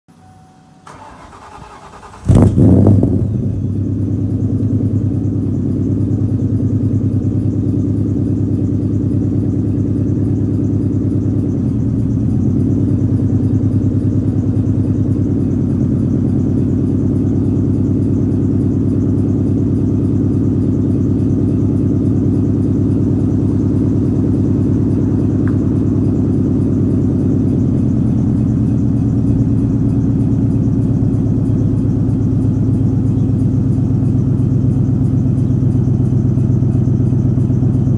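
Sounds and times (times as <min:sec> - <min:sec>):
car engine idling: 0:00.2 - 0:37.9.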